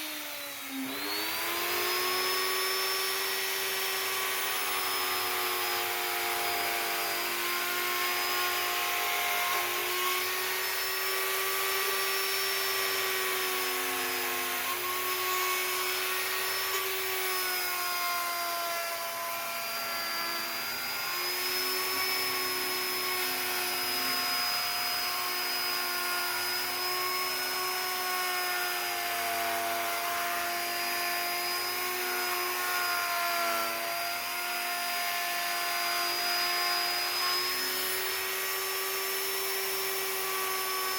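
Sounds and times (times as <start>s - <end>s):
power carving tool whining: 0.0s - 40.9s.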